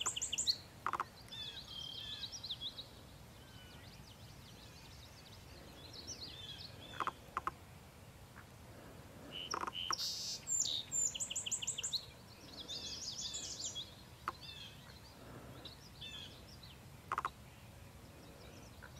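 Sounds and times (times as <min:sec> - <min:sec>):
low steady hiss: 0:00.0 - 0:18.9
songbirds chirping: 0:00.0 - 0:18.9.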